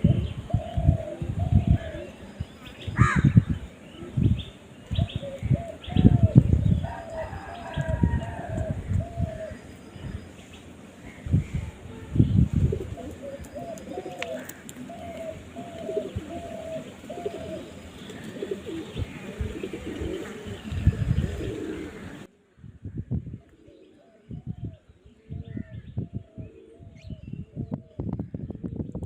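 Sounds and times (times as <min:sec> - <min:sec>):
doves cooing: 0:00.0 - 0:22.3, 0:23.4 - 0:28.0.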